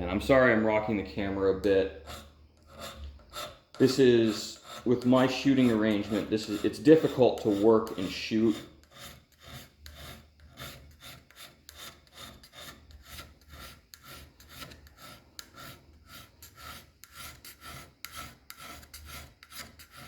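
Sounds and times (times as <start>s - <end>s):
hand scraper rasping on metal: 0.3s - 20.0s.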